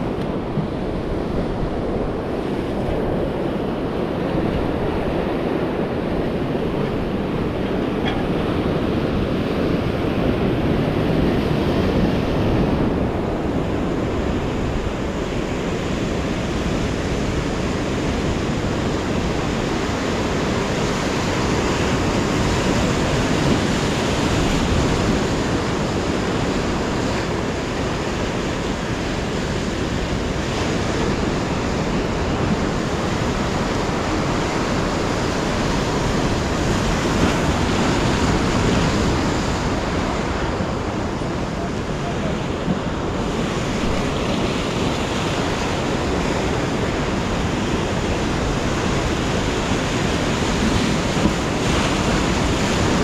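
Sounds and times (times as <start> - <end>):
sea waves washing on shore: 0.0 - 53.0
wind on microphone: 0.0 - 53.0.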